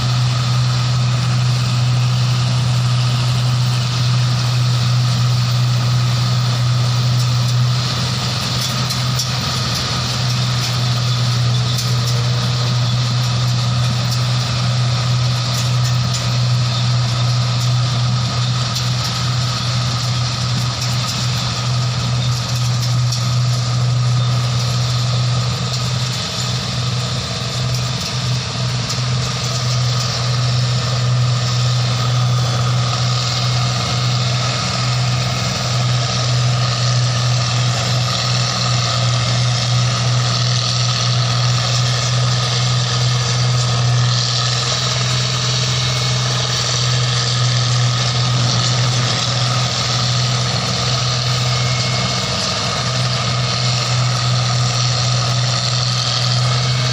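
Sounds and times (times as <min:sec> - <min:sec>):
harvesting machine engine running: 0:00.0 - 0:56.9.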